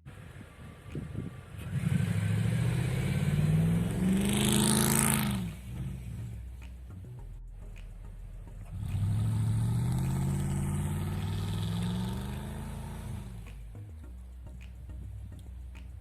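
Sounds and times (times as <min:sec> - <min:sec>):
car engine idling and revving: 0:00.1 - 0:16.0.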